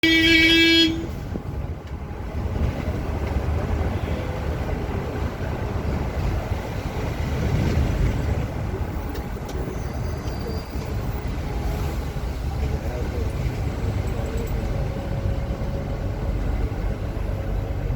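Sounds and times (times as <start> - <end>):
bus engine and road noise: 0.0 - 17.9.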